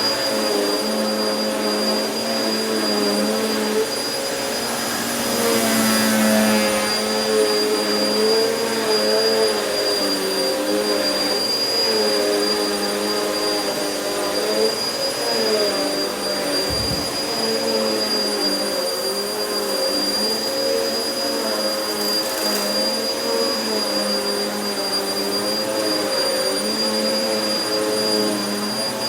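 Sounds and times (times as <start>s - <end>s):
vacuum cleaner on carpet: 0.0s - 29.0s.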